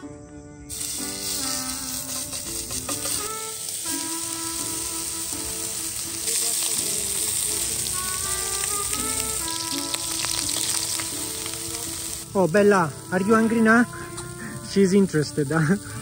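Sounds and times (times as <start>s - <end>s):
background music: 0.0s - 16.0s
burger patties sizzling: 0.7s - 16.0s.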